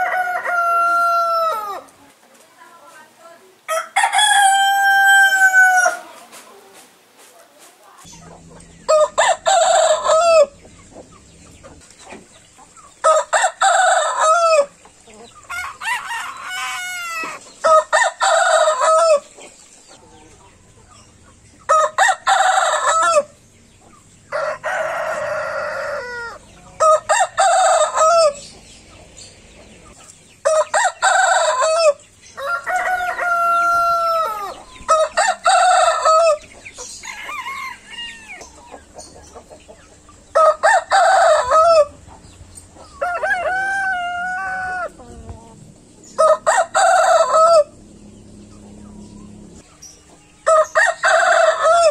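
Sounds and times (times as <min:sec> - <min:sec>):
roosters crowing: 0:00.0 - 0:02.0, 0:03.6 - 0:06.6, 0:08.0 - 0:51.9.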